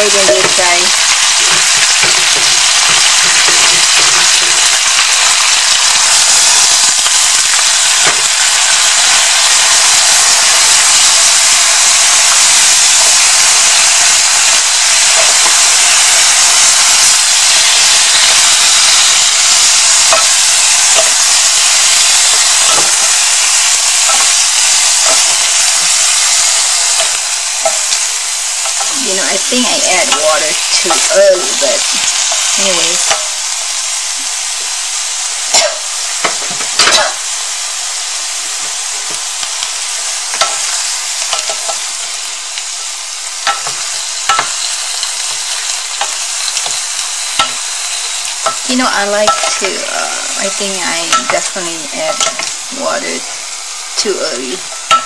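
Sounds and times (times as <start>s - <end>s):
bones sizzling in hot oil: 0.0s - 55.0s.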